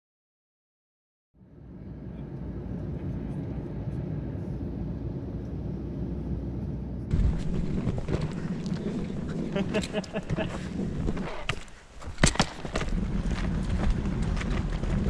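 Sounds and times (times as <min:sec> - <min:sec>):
vehicle engine drone: 0:01.4 - 0:15.0.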